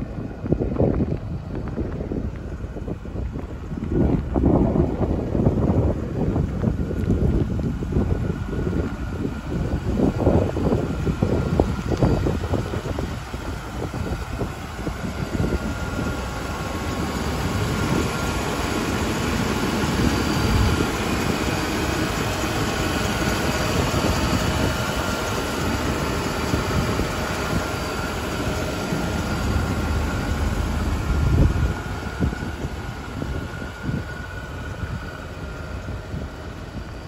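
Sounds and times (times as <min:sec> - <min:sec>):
faint steady engine whine: 0:00.0 - 0:37.0
pickup engine idling: 0:00.0 - 0:37.0.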